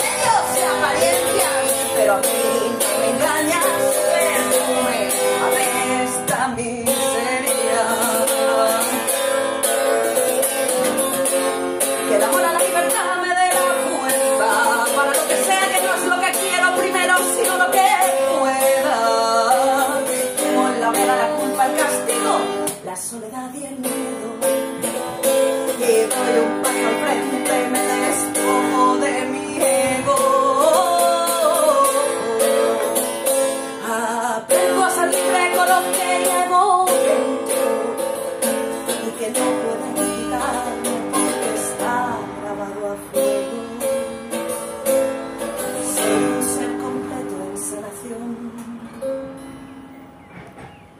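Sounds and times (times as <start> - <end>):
person singing: 0.0 - 49.4
acoustic guitar strumming: 0.0 - 50.9.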